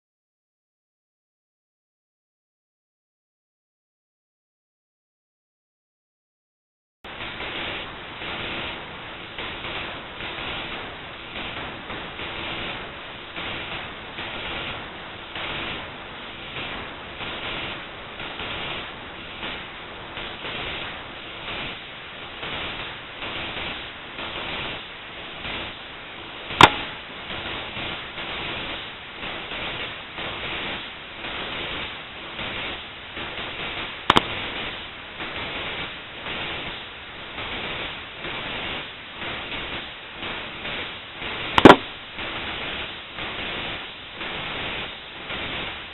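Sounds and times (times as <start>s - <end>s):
steady pulsing hiss: 7.1s - 45.9s.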